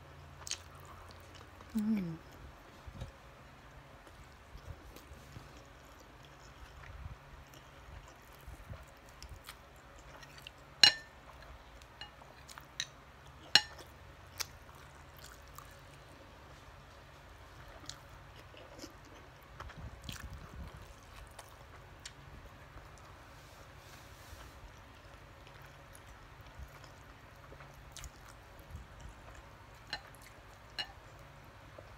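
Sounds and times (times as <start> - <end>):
soft chewing: 0.0 - 31.9.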